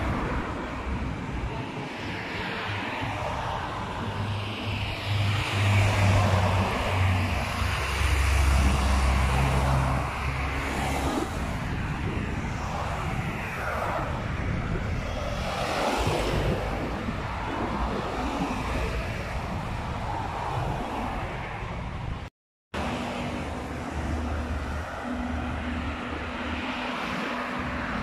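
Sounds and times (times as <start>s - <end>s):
cars driving past: 0.0s - 22.1s, 22.8s - 28.0s.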